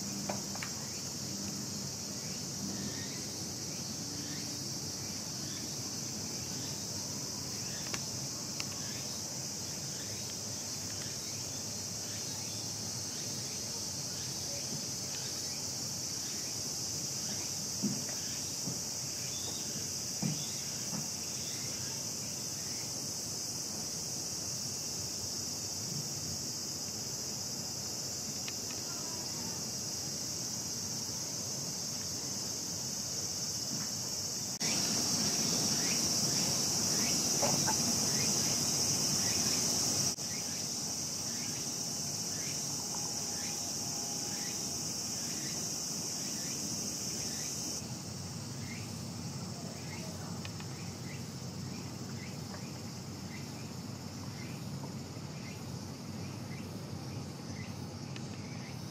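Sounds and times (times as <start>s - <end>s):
cicadas droning: 0.0s - 58.9s.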